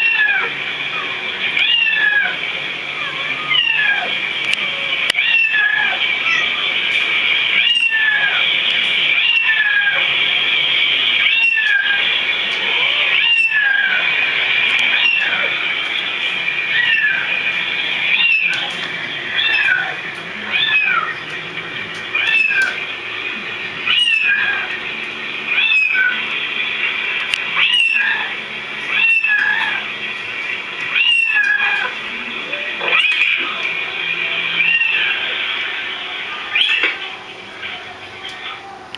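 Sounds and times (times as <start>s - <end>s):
cats meowing: 0.0s - 6.8s, 7.5s - 10.2s, 11.1s - 26.4s, 27.3s - 38.9s
steady high hiss: 0.0s - 38.9s.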